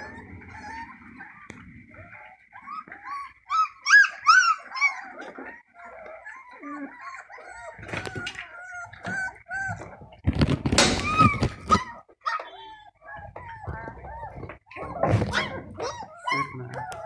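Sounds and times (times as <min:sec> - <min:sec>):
puppy whining and yelping: 0:00.0 - 0:17.0.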